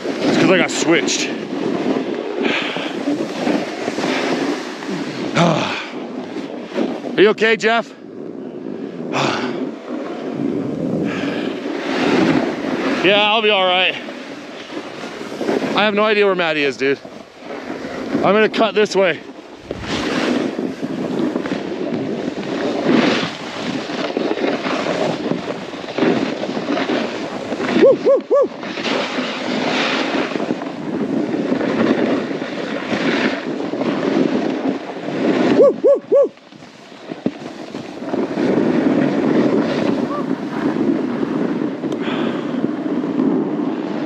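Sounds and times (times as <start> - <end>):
snowboard scraping across snow: 0.0 - 44.0
wind buffeting microphone: 0.0 - 44.0.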